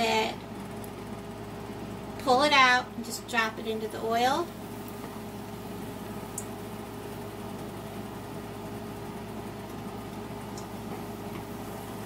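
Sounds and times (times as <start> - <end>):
faint hum: 0.0 - 12.0
food frying in hot oil: 0.0 - 12.0.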